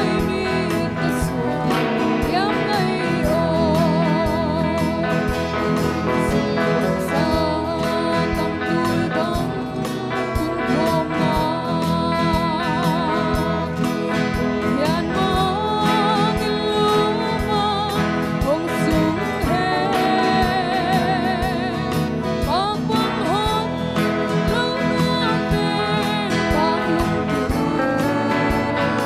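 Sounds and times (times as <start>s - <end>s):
drum kit steady beat: 0.0s - 29.0s
electric and acoustic guitars: 0.0s - 29.0s
keyboard: 0.0s - 29.0s.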